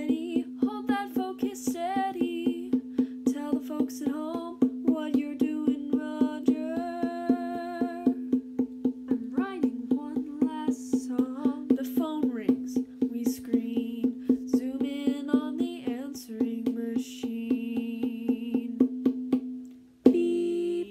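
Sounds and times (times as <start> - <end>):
person singing: 0.0 - 8.2, 9.1 - 18.8, 20.1 - 20.9.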